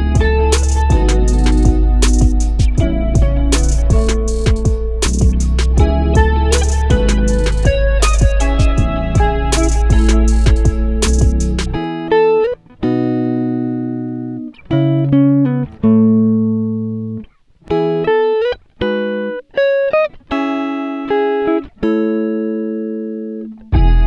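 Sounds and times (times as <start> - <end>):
plucked guitar notes: 0.0 - 24.0.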